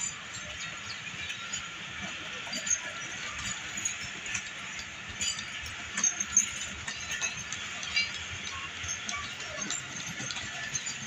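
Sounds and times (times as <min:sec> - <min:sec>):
metallic clinks and squeaks: 0:00.0 - 0:11.0
wheels clacking over rail joints: 0:00.0 - 0:11.0.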